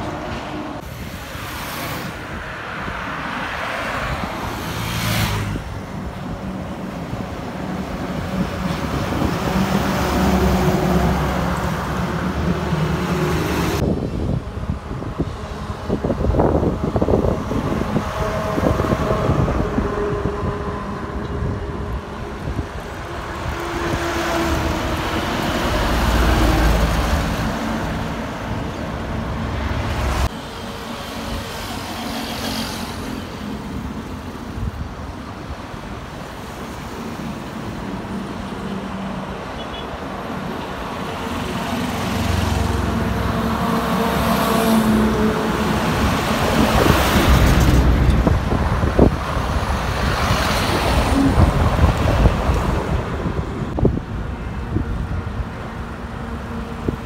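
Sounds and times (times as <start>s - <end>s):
lorries and cars passing: 0.0s - 57.0s.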